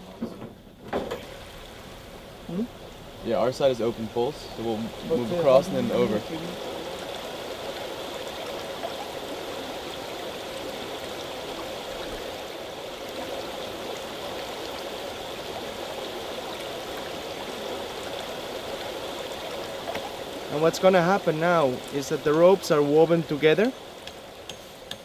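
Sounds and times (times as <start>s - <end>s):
river flowing over stones: 1.1s - 25.0s.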